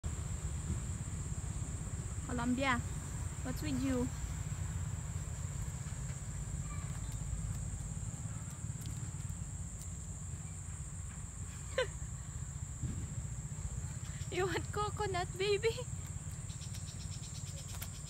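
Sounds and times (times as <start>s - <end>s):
low rumble: 0.0s - 17.2s.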